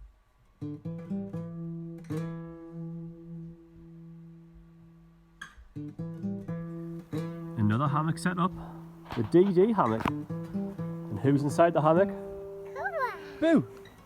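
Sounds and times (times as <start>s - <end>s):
acoustic guitar picking and chords: 0.6s - 14.0s.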